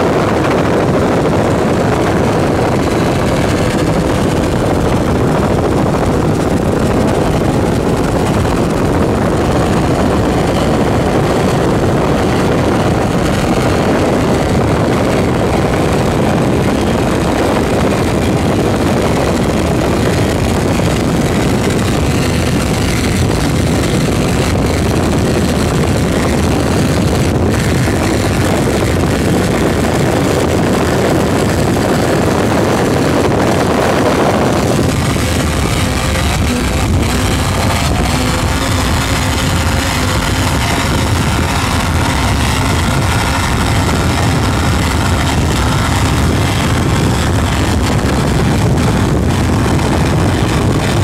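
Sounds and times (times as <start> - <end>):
engine drone: 0.0 - 51.0
rushing noise: 0.0 - 51.0.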